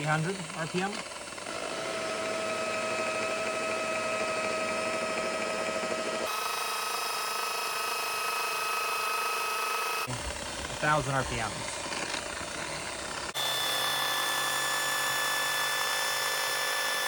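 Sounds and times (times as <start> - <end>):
rotary polisher motor whine: 0.0 - 17.0.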